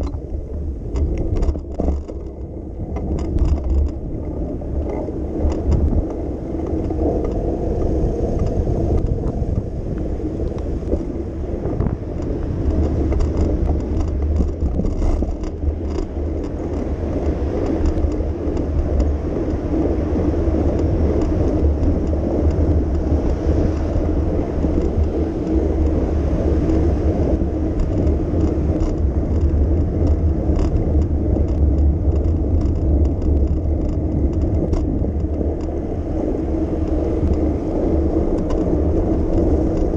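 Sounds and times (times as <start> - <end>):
bicycle tyre and road noise: 0.0 - 39.9
car traffic: 0.0 - 39.9.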